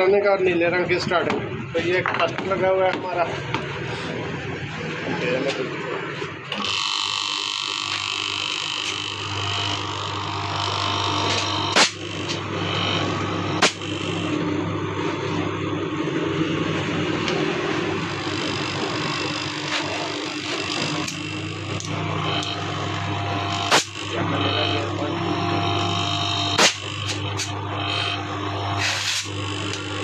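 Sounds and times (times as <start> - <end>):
compressor electric hum: 0.0 - 30.0.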